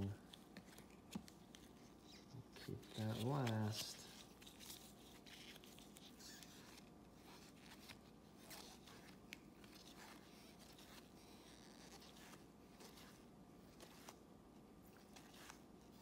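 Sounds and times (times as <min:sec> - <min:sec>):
low room hum: 0:00.0 - 0:16.0
trading cards sliding: 0:00.2 - 0:14.2.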